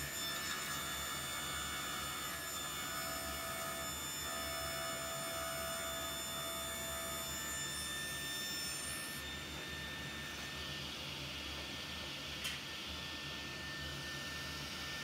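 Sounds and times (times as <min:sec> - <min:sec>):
table saw cutting wood: 0:00.0 - 0:11.0, 0:13.0 - 0:15.0.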